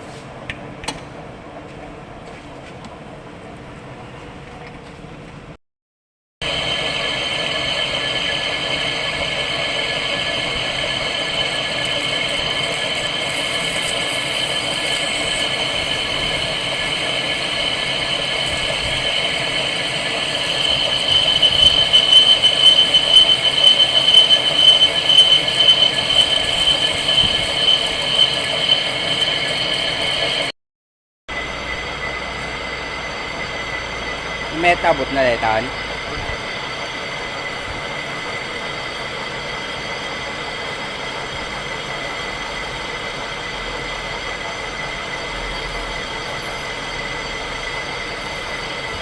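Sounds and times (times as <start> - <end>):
metal lathe running: 6.4 - 30.5, 31.3 - 49.0
high-pitched lathe whine: 6.4 - 30.6, 31.3 - 49.0.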